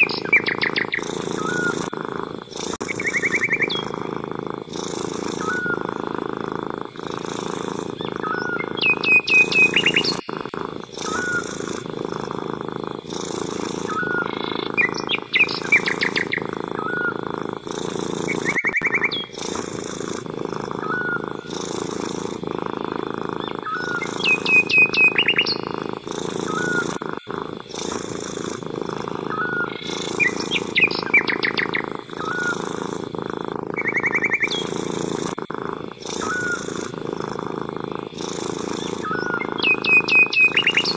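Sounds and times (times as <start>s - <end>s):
birds chirping: 0.0s - 40.9s
cat purring: 0.0s - 40.9s.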